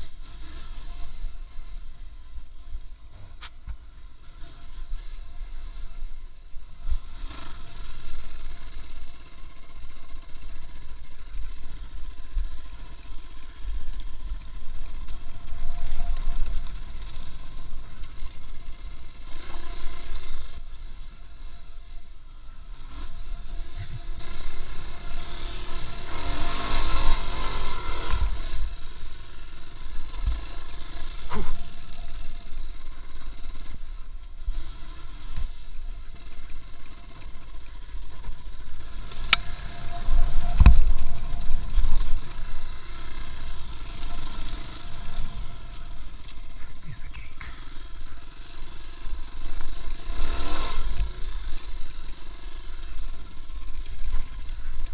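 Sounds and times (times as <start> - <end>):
vehicle rumbling on the move: 0.0 - 54.9.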